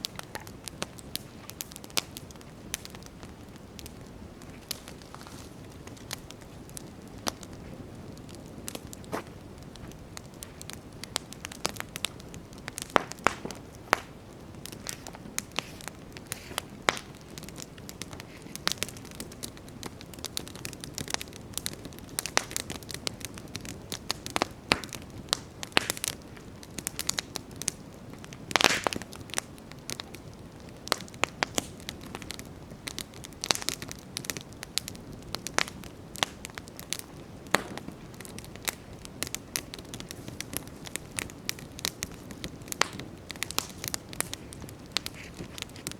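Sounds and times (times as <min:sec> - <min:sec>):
campfire crackling: 0:00.0 - 0:45.9
hiss of flames: 0:00.0 - 0:45.9.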